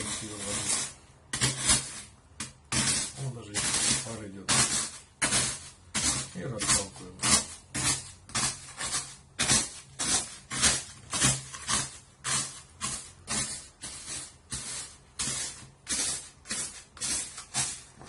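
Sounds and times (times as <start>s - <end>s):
crystals being crushed and ground: 0.0s - 18.0s.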